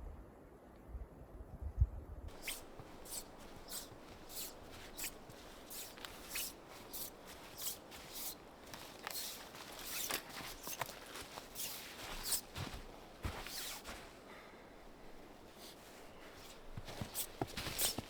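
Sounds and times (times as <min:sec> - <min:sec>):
footsteps crunching in snow: 0:02.3 - 0:18.0.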